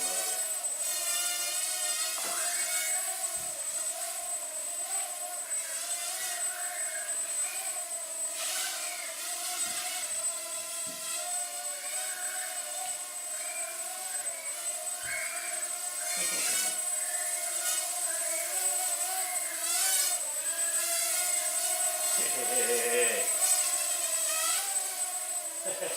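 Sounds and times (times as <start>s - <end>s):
quadcopter propellers whining: 0.0s - 25.9s.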